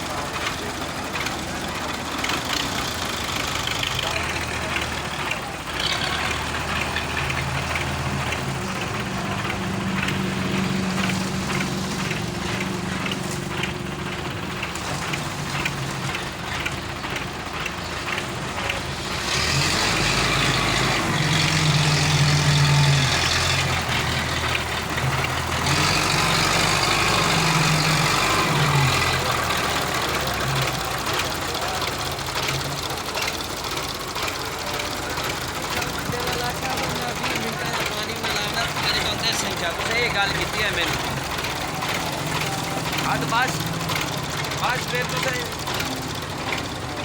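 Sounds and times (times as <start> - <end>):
diesel tractor engine knocking: 0.0 - 47.0.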